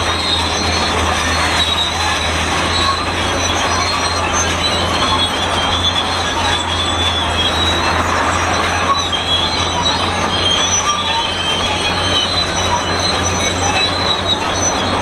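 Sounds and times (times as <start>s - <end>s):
bulldozer engine drone: 0.0s - 15.0s
metallic squeals and creaks: 0.0s - 15.0s.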